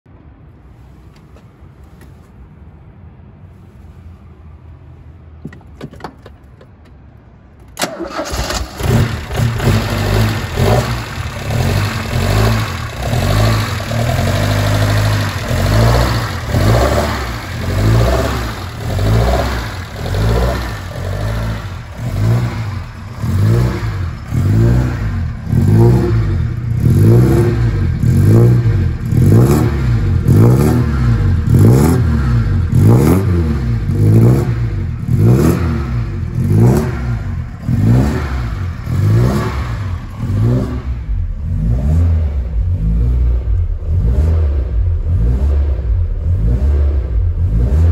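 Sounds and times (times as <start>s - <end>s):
car engine revving: 7.8s - 47.9s.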